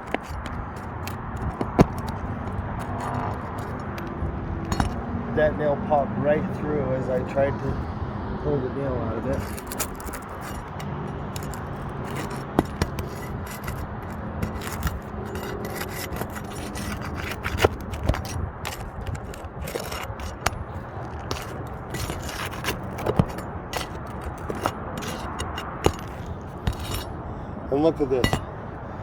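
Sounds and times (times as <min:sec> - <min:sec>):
shingles scraping: 0:00.0 - 0:05.0, 0:09.2 - 0:28.7.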